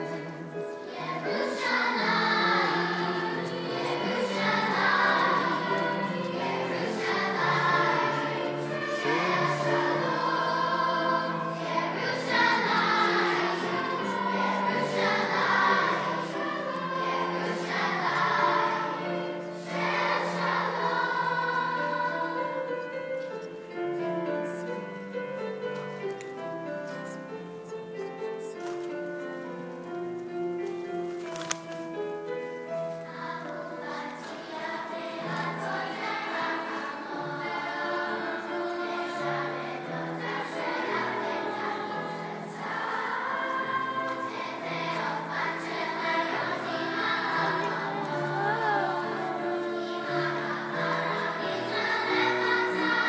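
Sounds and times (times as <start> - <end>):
choir singing: 0.0 - 30.1, 31.9 - 53.0
sustained accompaniment: 0.0 - 53.0.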